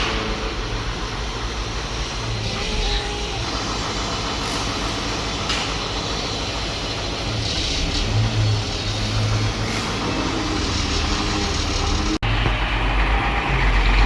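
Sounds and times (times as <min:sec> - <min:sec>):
pile-driving machinery running: 0:00.0 - 0:14.0.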